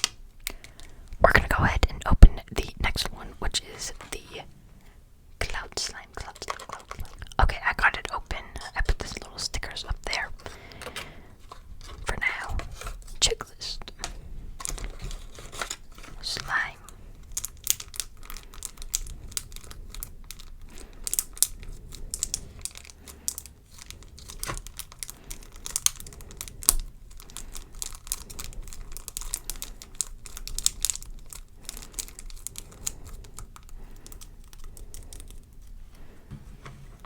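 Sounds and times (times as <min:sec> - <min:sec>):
plastic packaging crinkling: 0:05.5 - 0:36.0.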